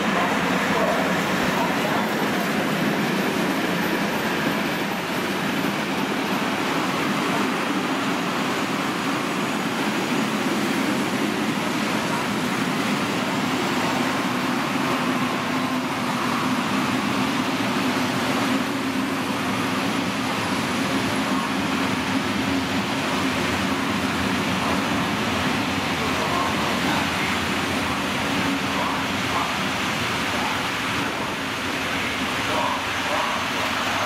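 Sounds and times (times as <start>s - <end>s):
train wheels rolling on rails: 0.0s - 34.0s.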